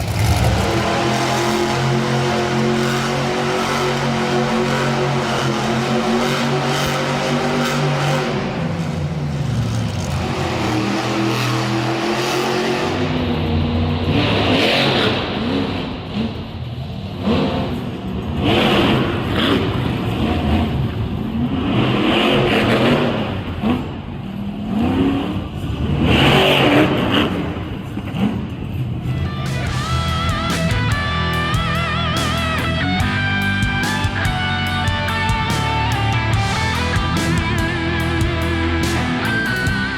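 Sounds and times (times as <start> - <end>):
truck engines revving: 0.0 - 39.9.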